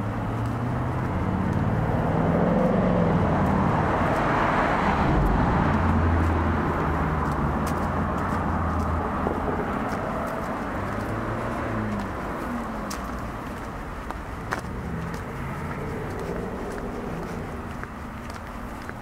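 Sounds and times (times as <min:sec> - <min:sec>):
car engine and tyre noise: 0:00.0 - 0:19.0
footsteps on pavement: 0:00.0 - 0:19.0.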